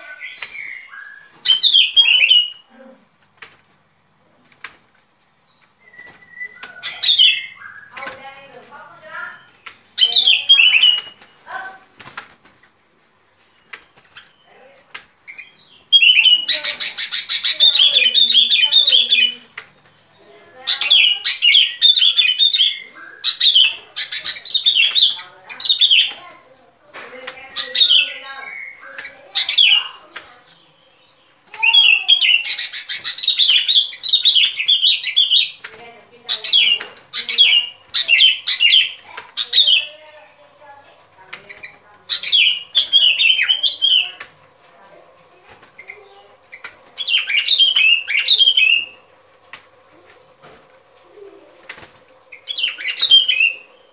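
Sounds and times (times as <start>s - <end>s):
bird song chattering and whistling: 0.0s - 3.7s, 5.3s - 12.2s, 13.3s - 49.2s, 51.1s - 53.9s
bulbul calling: 5.4s - 11.8s, 13.6s - 45.0s, 45.8s - 49.2s, 51.1s - 53.9s.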